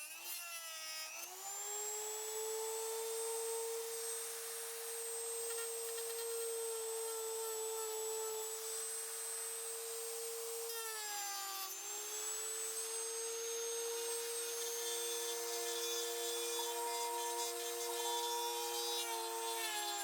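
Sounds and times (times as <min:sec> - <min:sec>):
rotary tool high whine: 0:00.0 - 0:20.0.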